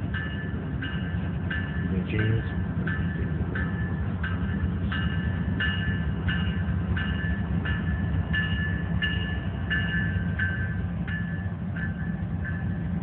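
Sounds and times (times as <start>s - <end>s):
crossing bell ringing: 0.0s - 13.0s.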